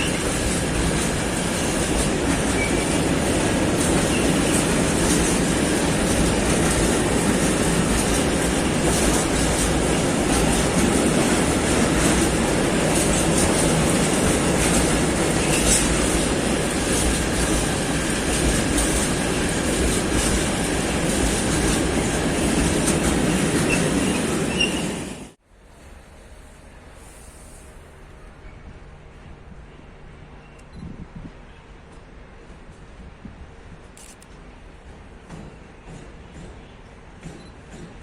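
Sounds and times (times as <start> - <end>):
clickety-clack over rail joints: 0.0 - 25.3, 31.2 - 38.0
train wheels rumbling on track: 0.0 - 38.0.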